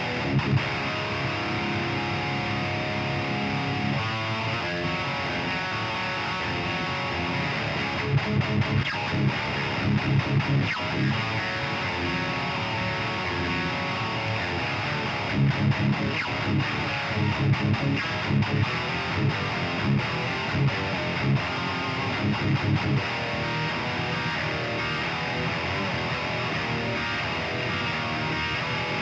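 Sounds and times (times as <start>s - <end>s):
distorted electric guitar riffs: 0.0s - 29.0s.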